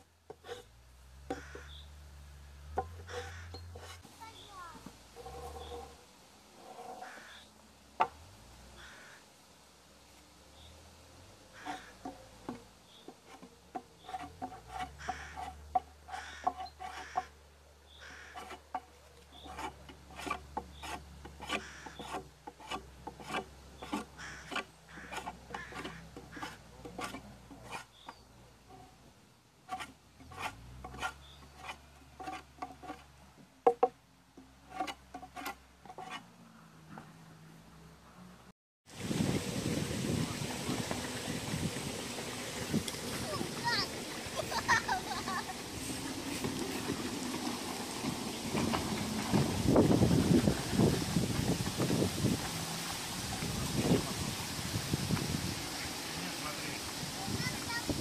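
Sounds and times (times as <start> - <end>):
scraping wooden plank: 0.0 - 1.8, 2.6 - 6.0, 11.5 - 17.4, 18.0 - 29.0, 29.6 - 37.2, 40.7 - 58.0.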